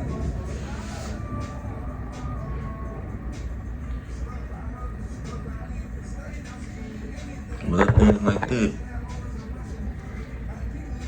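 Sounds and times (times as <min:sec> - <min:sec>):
faint background music: 0:00.0 - 0:11.0
steady low rumble: 0:00.0 - 0:11.0.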